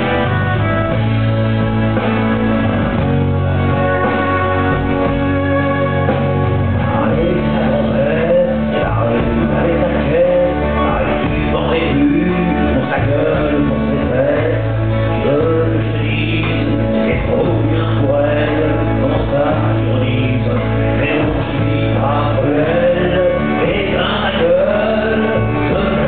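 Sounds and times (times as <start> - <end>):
acoustic guitar and band: 0.0 - 26.0
man singing: 3.4 - 26.0.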